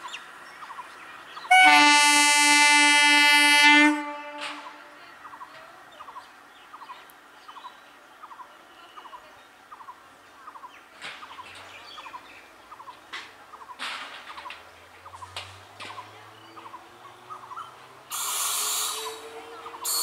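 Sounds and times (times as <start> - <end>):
train low hum: 0.0 - 20.0.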